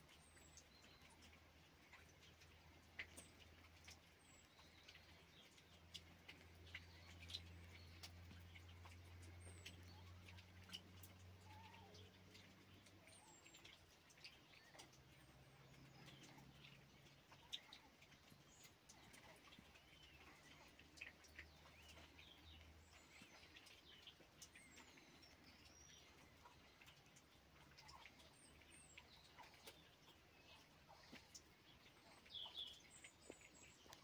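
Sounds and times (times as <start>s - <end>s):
light ticks: 0.0s - 34.0s
low steady hum: 0.0s - 34.0s
small birds chirping: 0.0s - 34.0s.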